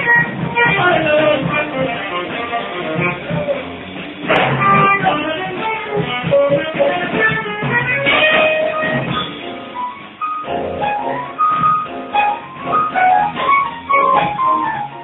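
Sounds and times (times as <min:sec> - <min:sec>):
bass guitar: 0:00.0 - 0:15.0
drum kit: 0:00.0 - 0:15.0
upright piano: 0:00.0 - 0:15.0.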